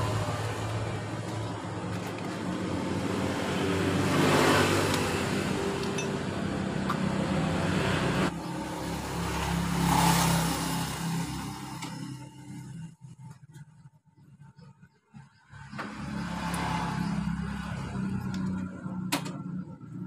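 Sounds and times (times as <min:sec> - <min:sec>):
vehicles passing by: 0:00.0 - 0:20.0.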